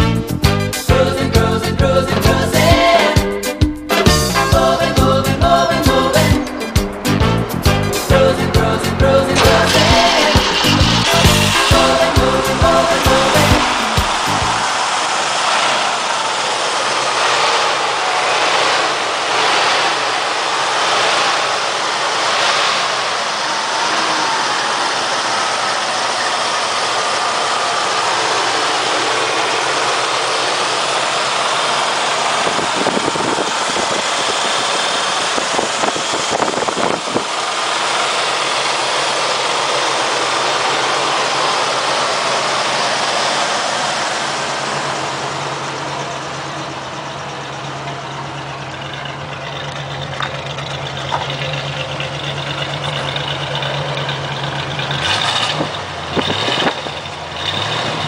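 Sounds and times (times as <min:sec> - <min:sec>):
car engine idling: 0:00.0 - 0:58.0
brief low engine rumbles: 0:04.0 - 0:57.1.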